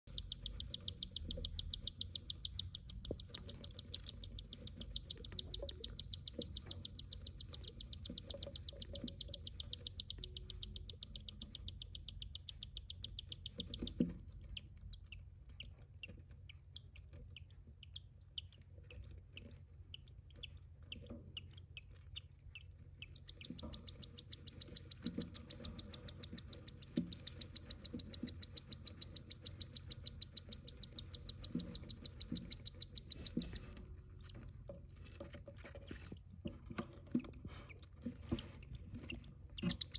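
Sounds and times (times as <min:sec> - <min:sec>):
bird chicks cheeping: 0:00.0 - 0:34.6, 0:39.0 - 0:39.9.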